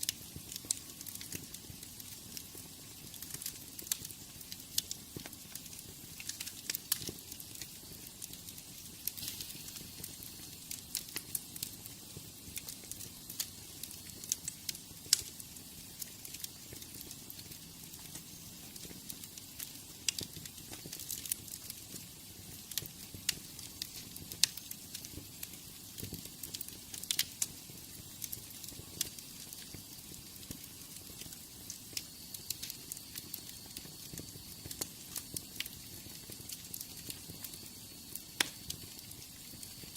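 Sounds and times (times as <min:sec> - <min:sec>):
fire crackling and popping: 0:00.0 - 0:39.9
fire hissing: 0:00.0 - 0:39.9.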